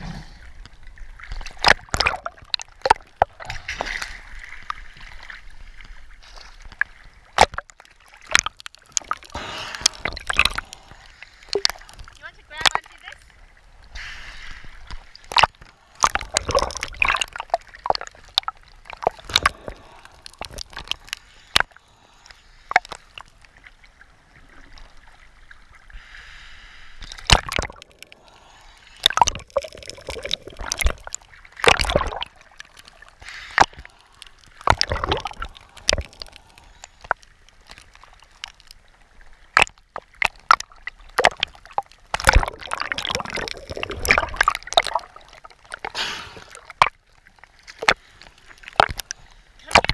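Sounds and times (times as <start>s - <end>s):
water sloshing and gurgling: 0.0s - 49.9s.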